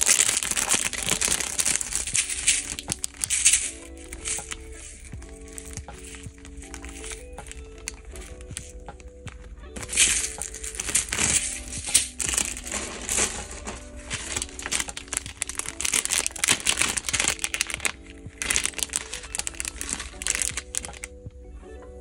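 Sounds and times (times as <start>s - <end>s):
plastic packaging crinkling: 0.0s - 21.2s
soft background music: 0.0s - 22.0s.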